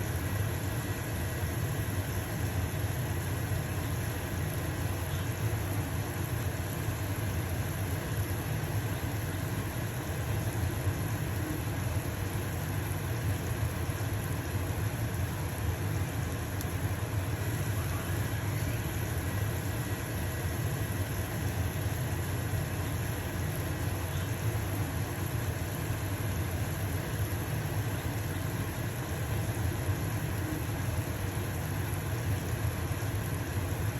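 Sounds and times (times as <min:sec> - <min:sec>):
pancake sizzling in a frying pan: 0:00.0 - 0:33.9
range hood fan humming: 0:00.0 - 0:33.9.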